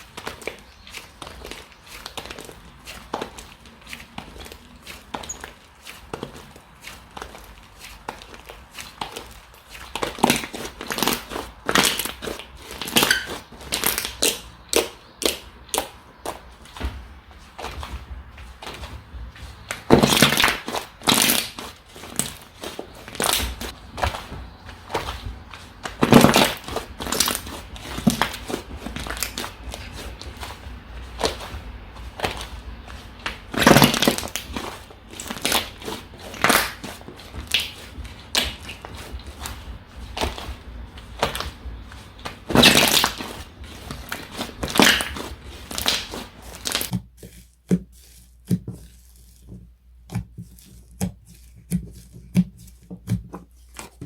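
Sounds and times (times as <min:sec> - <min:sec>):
slime squishing and crackling: 0:00.0 - 0:54.0.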